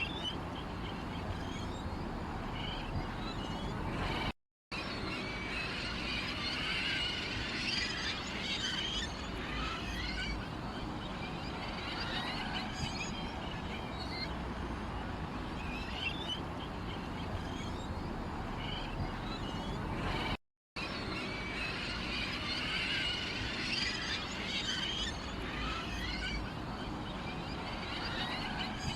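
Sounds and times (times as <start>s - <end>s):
small birds chirping: 0.0s - 4.3s, 4.9s - 20.4s, 21.0s - 28.9s.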